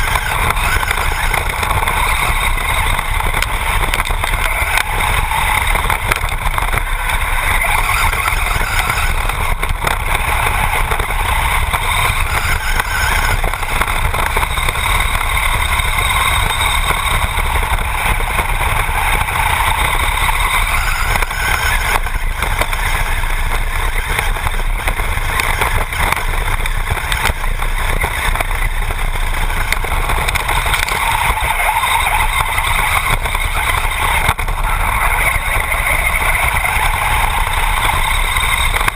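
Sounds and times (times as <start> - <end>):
low vibration rumble: 0.0 - 38.9
rc car motor whirring: 0.0 - 38.9
tyres on dirt: 0.0 - 38.9.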